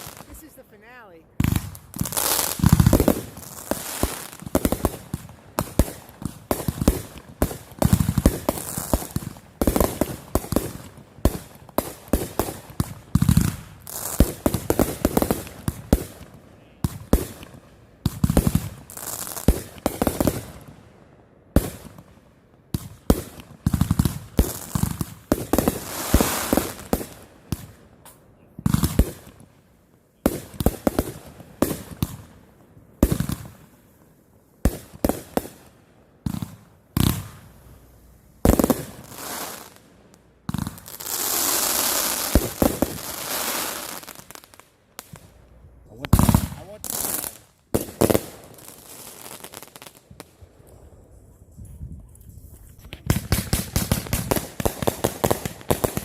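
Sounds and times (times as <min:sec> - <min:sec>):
fireworks bangs and pops: 0:00.0 - 0:00.8, 0:01.4 - 0:20.8, 0:21.5 - 0:29.5, 0:30.2 - 0:50.8, 0:52.0 - 0:56.0.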